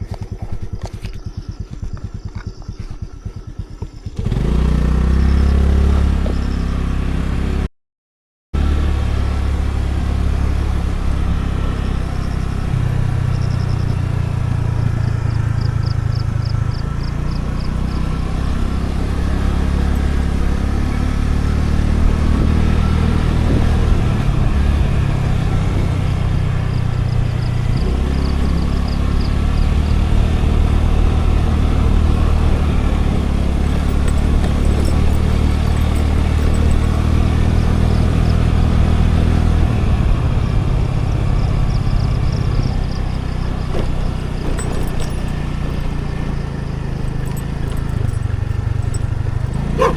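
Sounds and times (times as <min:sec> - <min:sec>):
scooter engine running: 0:00.0 - 0:07.7, 0:08.6 - 0:49.9.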